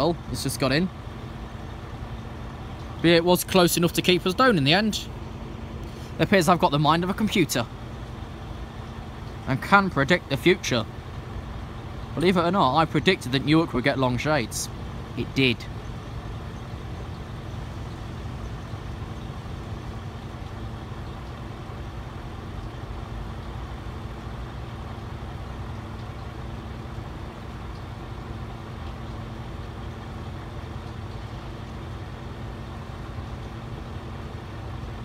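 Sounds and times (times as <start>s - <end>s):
vehicle engines idling: 0.0s - 35.0s.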